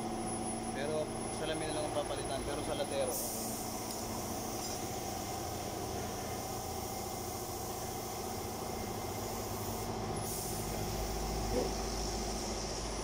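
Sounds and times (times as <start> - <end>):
engine running drone: 0.0 - 13.0.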